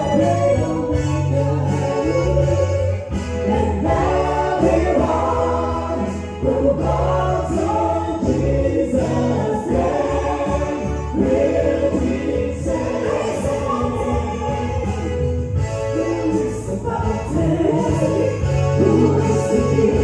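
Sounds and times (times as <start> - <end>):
group singing gospel song: 0.0 - 20.0.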